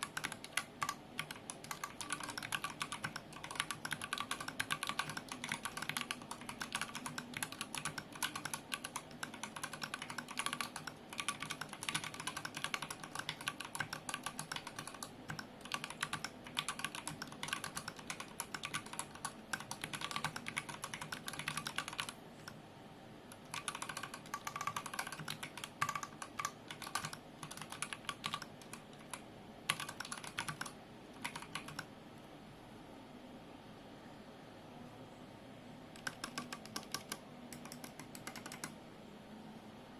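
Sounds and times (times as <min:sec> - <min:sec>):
mechanical keyboard typing: 0:00.0 - 0:22.6, 0:23.3 - 0:31.9, 0:35.9 - 0:38.8.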